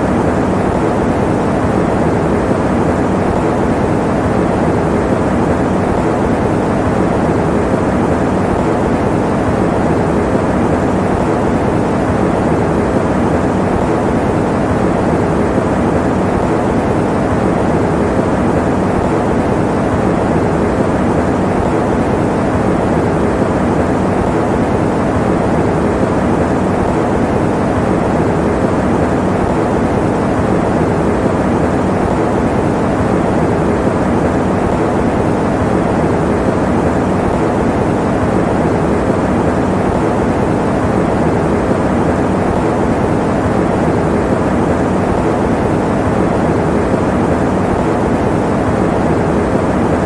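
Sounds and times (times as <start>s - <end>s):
electric fan running: 0.0s - 50.0s.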